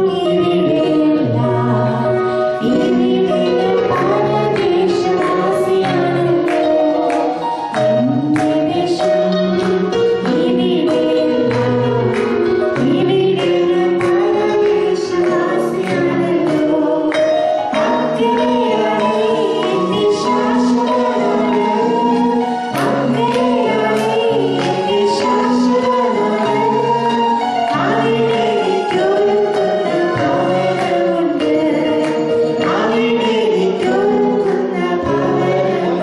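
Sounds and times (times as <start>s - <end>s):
instrumental accompaniment with beat: 0.0s - 36.0s
woman singing into a microphone: 0.0s - 36.0s.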